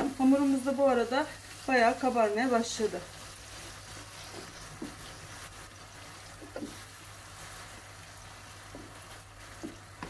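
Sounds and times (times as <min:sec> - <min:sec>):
filling sizzling in a frying pan: 0:00.0 - 0:10.0
wooden spoon scraping a pan: 0:00.0 - 0:10.0.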